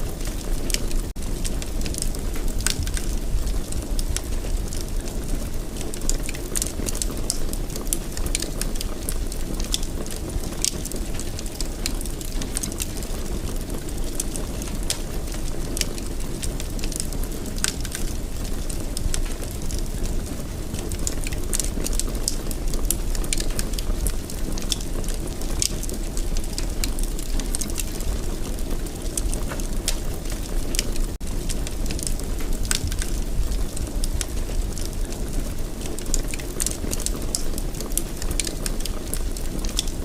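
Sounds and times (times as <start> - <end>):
fire crackling in a fireplace: 0.0 - 40.0.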